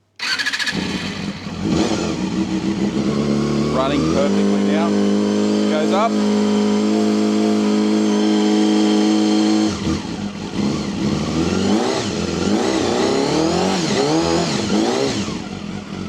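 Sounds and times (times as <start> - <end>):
motorcycle engine revving: 0.2 - 16.0.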